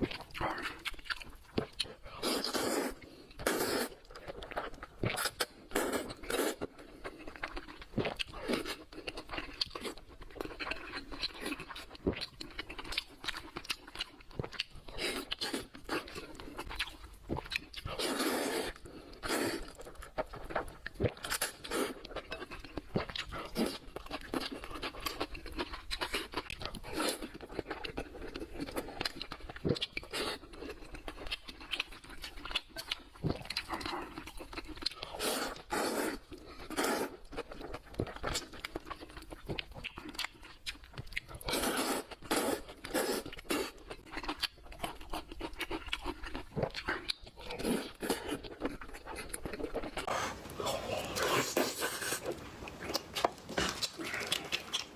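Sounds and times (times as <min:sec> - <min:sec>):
crunching and chewing: 0:00.0 - 0:54.9.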